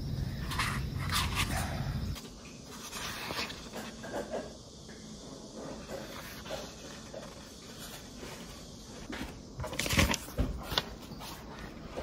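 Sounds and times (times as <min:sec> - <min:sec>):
book pages rustling: 0:00.4 - 0:04.1, 0:05.7 - 0:12.0.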